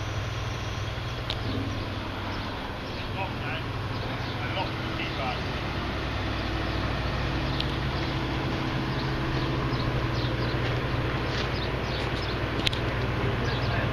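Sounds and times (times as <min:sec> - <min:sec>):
combine harvester engine humming: 0:00.0 - 0:13.9.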